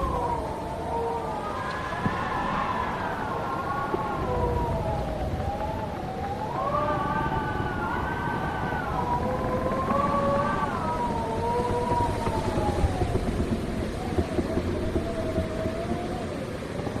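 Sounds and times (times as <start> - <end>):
howling wind: 0.0 - 17.0.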